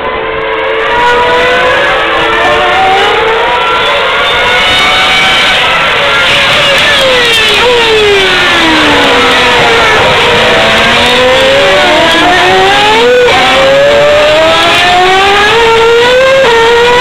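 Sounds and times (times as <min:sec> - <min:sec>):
race car engines accelerating: 0:00.0 - 0:17.0.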